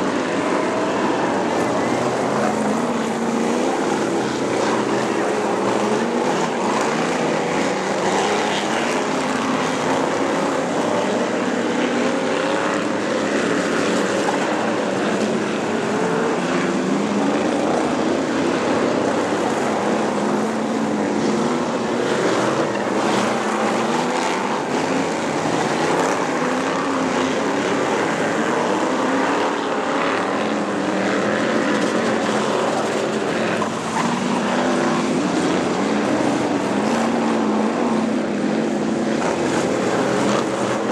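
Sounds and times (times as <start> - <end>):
race car engines running hard: 0.0 - 40.9.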